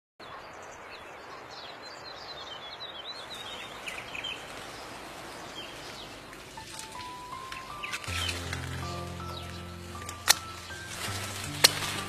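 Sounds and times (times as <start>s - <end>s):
small birds chirping: 0.2s - 12.0s
outdoor background hiss: 0.4s - 12.0s.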